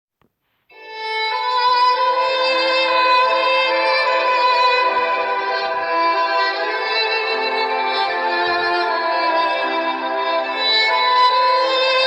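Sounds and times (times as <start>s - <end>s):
instrumental music of held notes: 0.7s - 12.0s.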